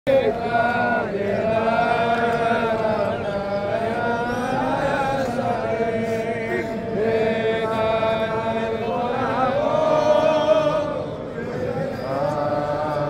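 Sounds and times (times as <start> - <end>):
men chanting a prayer: 0.1 - 13.0.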